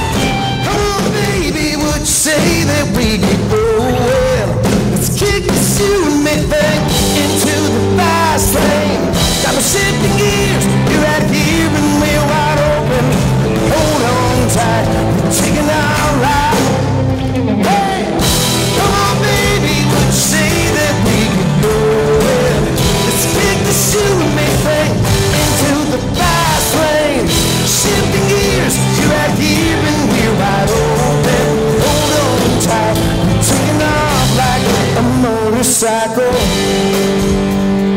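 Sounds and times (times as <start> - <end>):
acoustic guitar: 0.0 - 37.9
bass guitar: 0.0 - 37.9
drum kit: 0.0 - 37.9
electric guitar: 0.0 - 37.9.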